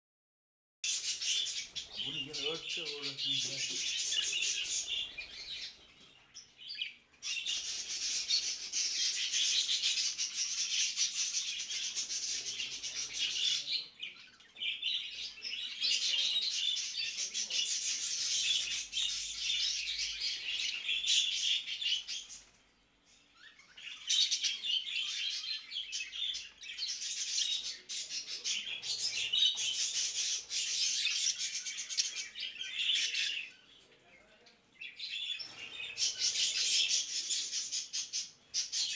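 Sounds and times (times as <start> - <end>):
budgerigars chattering: 0.9 - 22.4, 23.4 - 33.7, 35.2 - 38.9.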